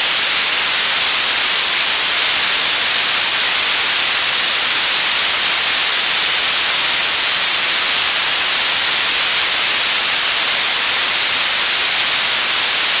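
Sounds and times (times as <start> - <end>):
television static hiss: 0.0 - 13.0.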